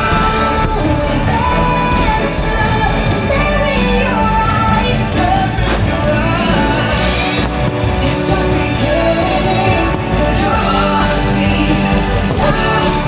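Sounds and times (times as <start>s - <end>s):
song with band accompaniment: 0.0s - 13.0s.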